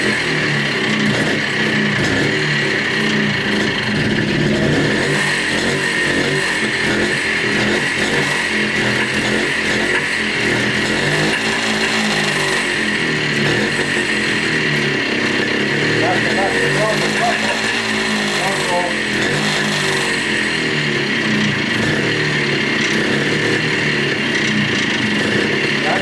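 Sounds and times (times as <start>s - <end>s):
two-stroke engine running: 0.0s - 26.0s.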